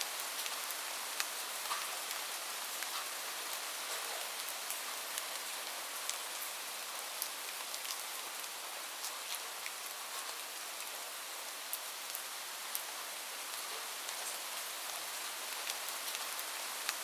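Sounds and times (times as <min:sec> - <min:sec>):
raindrops ticking on a surface: 0:00.1 - 0:11.0, 0:11.6 - 0:17.0.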